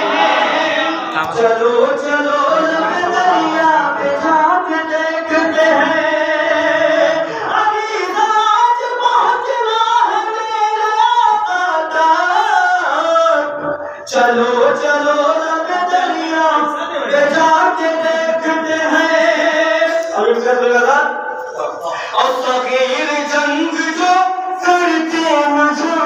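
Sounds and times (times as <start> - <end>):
man singing through microphone: 0.0 - 21.5, 22.1 - 26.0.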